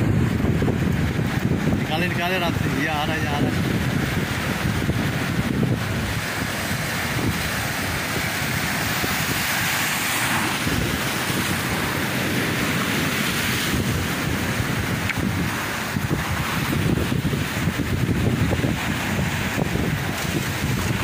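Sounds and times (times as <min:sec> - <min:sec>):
surf breaking against rocks: 0:00.0 - 0:21.0
wind rumble on microphone: 0:00.0 - 0:21.0.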